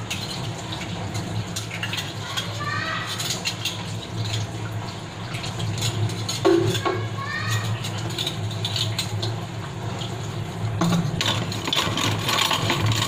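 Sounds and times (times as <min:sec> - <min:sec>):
dishes and utensils clattering: 0:00.0 - 0:04.5, 0:05.3 - 0:09.4, 0:10.8 - 0:13.0.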